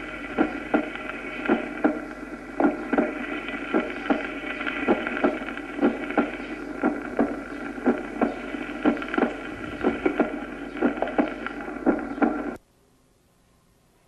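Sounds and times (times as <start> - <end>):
heartbeat through stethoscope: 0.0 - 12.6
steady hiss: 0.0 - 12.9.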